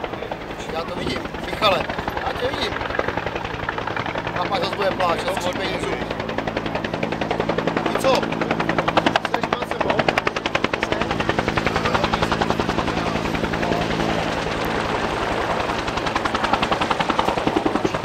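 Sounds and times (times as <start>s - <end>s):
helicopter rotor beating: 0.0s - 18.0s.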